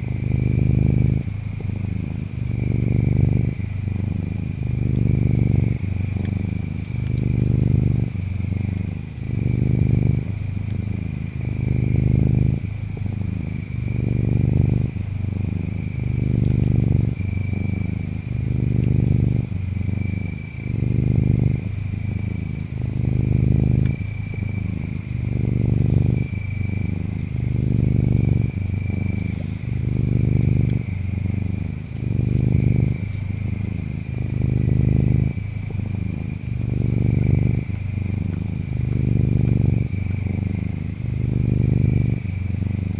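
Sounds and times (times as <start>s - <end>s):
cat purring: 0.0s - 42.9s
insects chirping: 0.0s - 42.9s.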